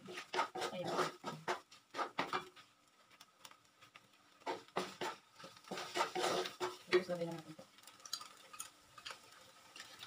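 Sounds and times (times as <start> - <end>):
wooden spatula scraping a wok: 0.0 - 10.0.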